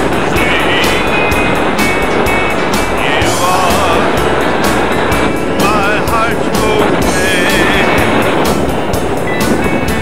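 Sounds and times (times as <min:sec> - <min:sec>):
country-style instrumental music: 0:00.0 - 0:10.0
wavering lead melody: 0:00.0 - 0:10.0.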